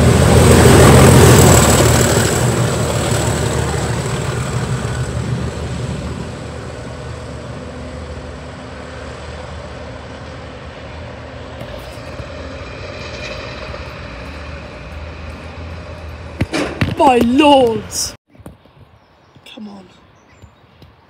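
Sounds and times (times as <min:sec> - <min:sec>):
diesel locomotive engines droning: 0:00.0 - 0:18.2.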